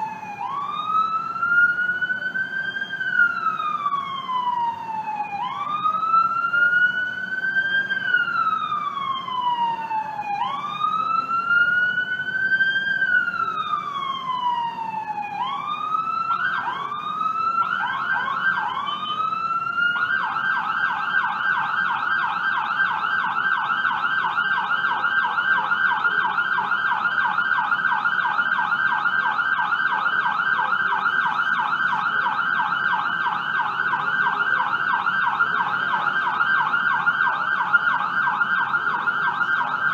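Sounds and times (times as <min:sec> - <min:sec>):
ambulance siren: 0:00.0 - 0:39.9
low road noise: 0:00.0 - 0:39.9.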